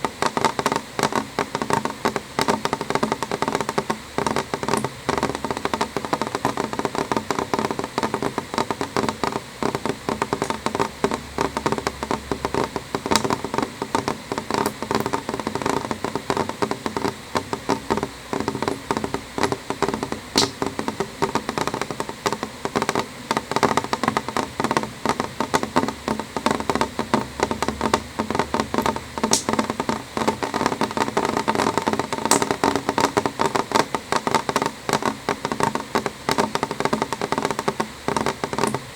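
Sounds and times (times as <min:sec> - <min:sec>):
rain tapping on window glass: 0:00.0 - 0:38.9.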